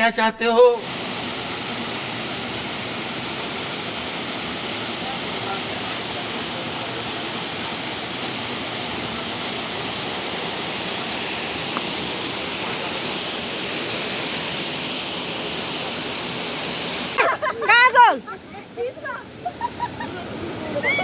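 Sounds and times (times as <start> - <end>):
waterfall rushing: 0.8 - 21.0.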